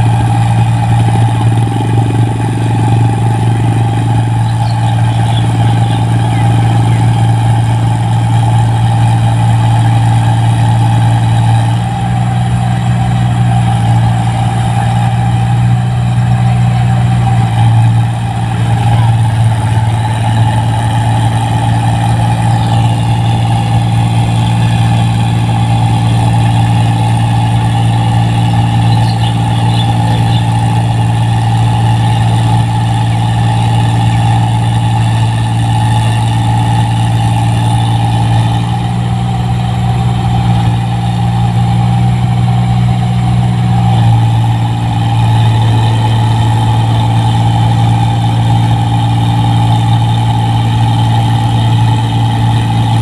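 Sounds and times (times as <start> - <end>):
combine harvester engine drone: 0.0 - 53.0
machinery whine: 0.0 - 53.0.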